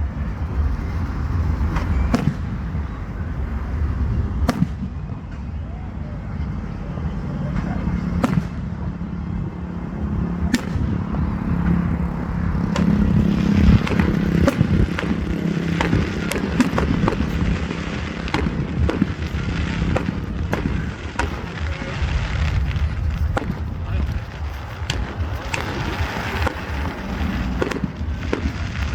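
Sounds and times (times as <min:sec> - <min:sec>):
fireworks cracking and banging: 0:00.0 - 0:28.9.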